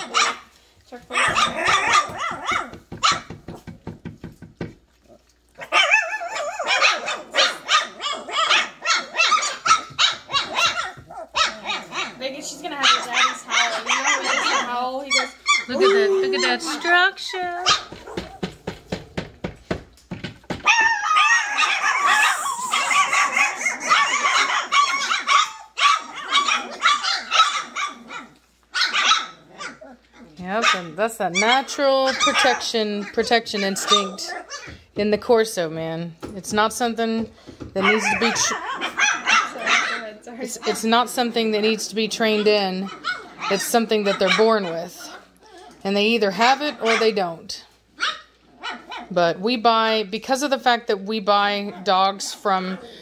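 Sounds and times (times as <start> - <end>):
puppies barking and growling: 0.0 - 35.7, 36.5 - 53.0.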